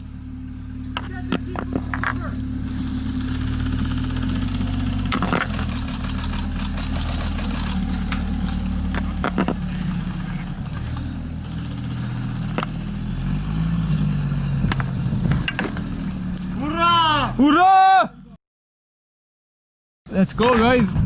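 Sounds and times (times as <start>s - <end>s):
car engine running: 0.0s - 18.4s.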